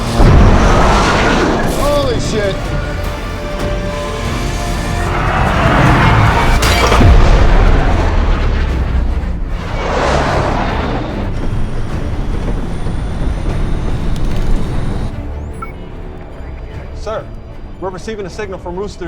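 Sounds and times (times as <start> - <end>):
film score music: 0.0 - 19.0.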